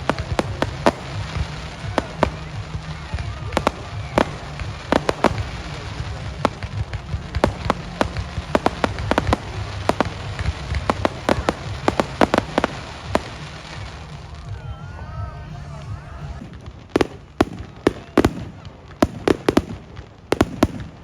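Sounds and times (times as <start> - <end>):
fireworks booms rumbling: 0.0 - 21.0
fireworks crackling pops: 0.0 - 21.0.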